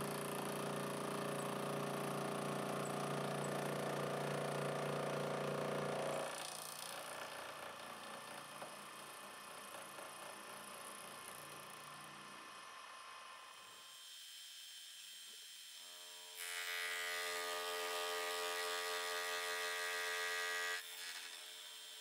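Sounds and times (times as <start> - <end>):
milling machine buzzing hum: 0.0 - 22.0.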